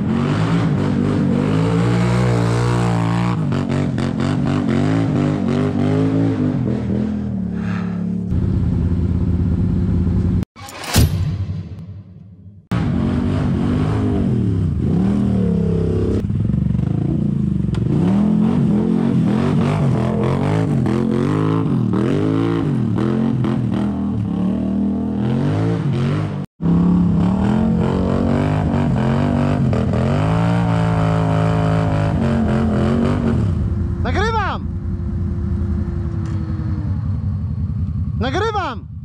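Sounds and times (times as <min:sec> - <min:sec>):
atv engine revving: 0:00.0 - 0:10.2, 0:12.8 - 0:38.4.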